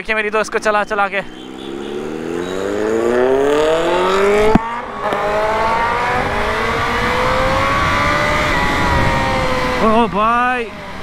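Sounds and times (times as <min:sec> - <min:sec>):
motorcycle engine accelerating: 0:00.4 - 0:11.0
wind rush: 0:02.0 - 0:11.0.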